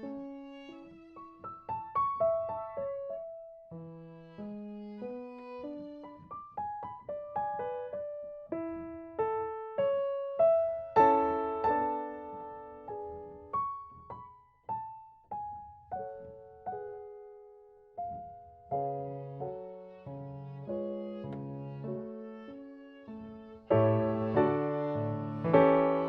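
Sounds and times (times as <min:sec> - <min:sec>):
gentle solo piano melody: 0:00.9 - 0:04.0, 0:06.0 - 0:26.0.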